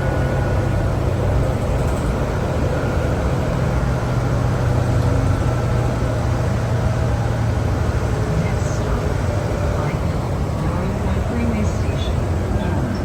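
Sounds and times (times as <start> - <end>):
bus diesel engine running: 0.0 - 13.0
road and tyre noise: 0.0 - 13.0.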